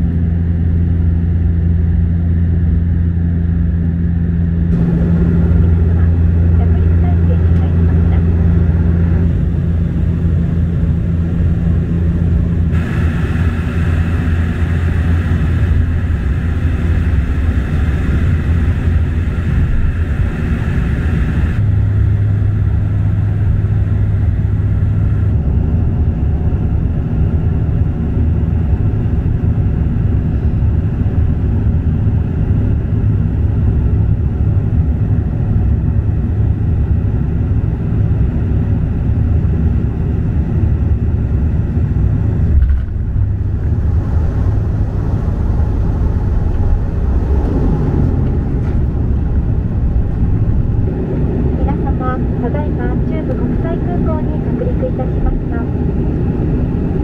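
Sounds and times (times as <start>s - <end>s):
airliner engines droning: 0.0s - 57.0s
higher whine: 0.0s - 57.0s.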